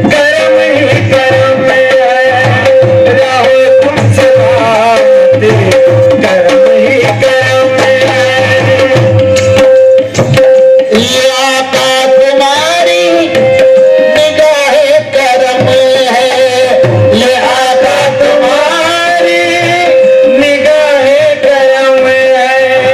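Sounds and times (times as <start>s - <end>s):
person singing: 0.0s - 9.4s, 10.8s - 22.9s
tabla drumming: 0.0s - 22.9s.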